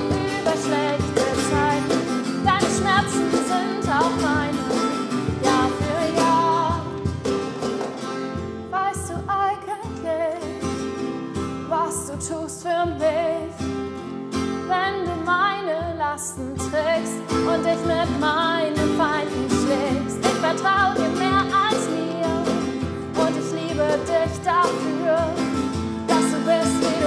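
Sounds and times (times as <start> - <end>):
woman singing pop song: 0.0 - 7.2, 8.5 - 10.8, 11.6 - 13.8, 14.5 - 27.0
cajon beat: 0.0 - 11.0, 14.9 - 27.0
strummed acoustic guitar: 0.0 - 27.0.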